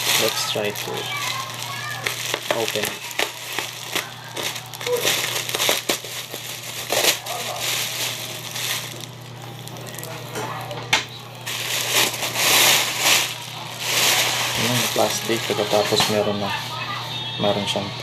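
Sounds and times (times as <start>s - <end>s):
scissors cutting plastic: 0.0s - 10.7s, 11.5s - 16.4s
plastic bag crinkling: 0.0s - 17.6s.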